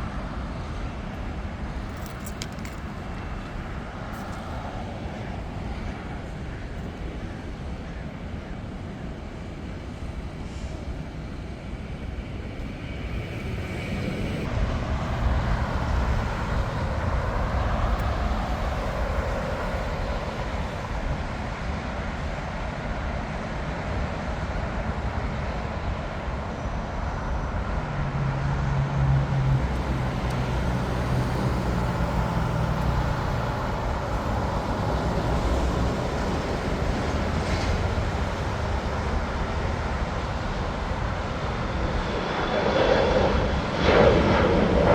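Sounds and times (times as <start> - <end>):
jet engines rumbling: 0.0 - 44.9.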